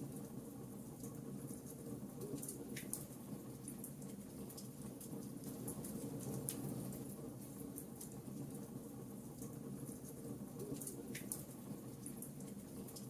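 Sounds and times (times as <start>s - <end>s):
wood fire crackling and popping: 0.9s - 13.0s.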